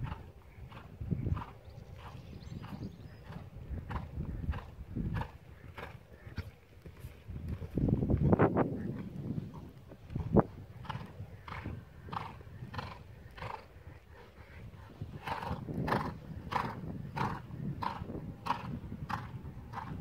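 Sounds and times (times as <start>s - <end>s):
horse cantering: 0.0s - 20.0s.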